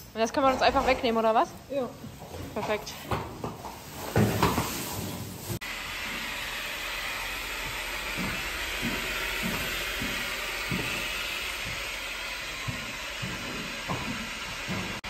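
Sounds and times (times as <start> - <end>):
hose water running into buckets: 0.3 - 15.0.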